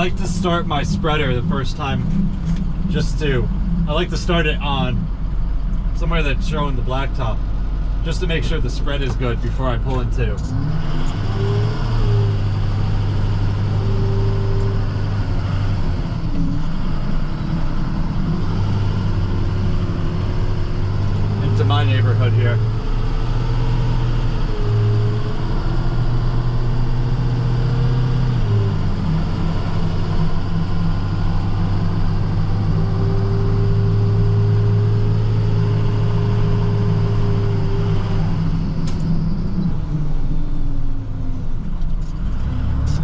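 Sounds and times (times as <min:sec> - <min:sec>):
truck engine drone from cab: 0:00.0 - 0:43.0.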